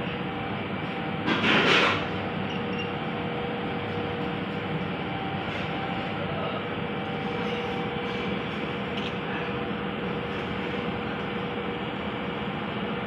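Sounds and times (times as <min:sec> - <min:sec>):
mechanical rumble: 0:00.0 - 0:13.0.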